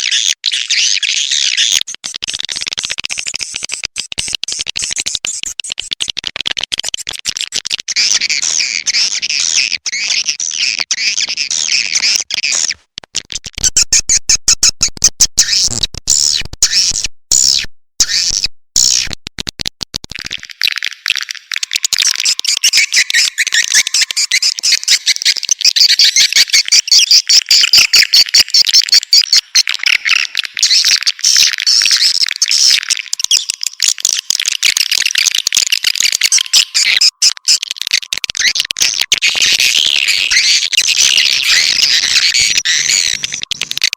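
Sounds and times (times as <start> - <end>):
recorded swiftlet calls: 6.8 - 19.1, 20.2 - 43.9.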